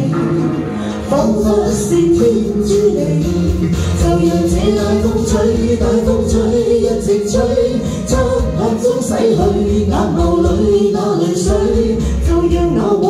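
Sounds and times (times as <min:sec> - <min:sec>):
backing music with bass and beat: 0:00.0 - 0:13.0
man and woman singing duet: 0:00.0 - 0:13.0.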